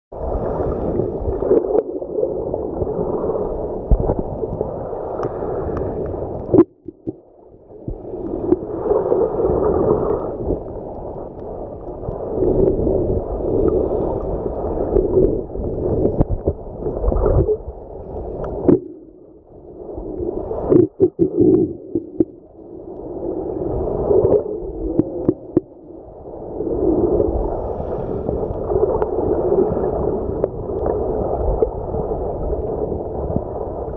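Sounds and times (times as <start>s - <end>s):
underwater waves rushing: 0.1s - 33.9s.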